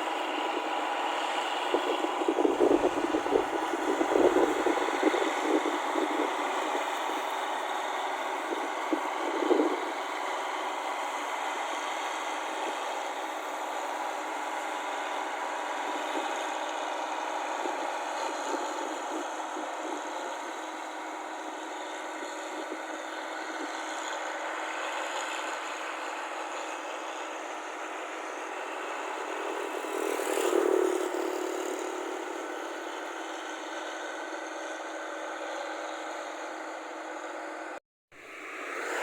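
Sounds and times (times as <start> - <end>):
combine harvester engine running: 0.0 - 39.0.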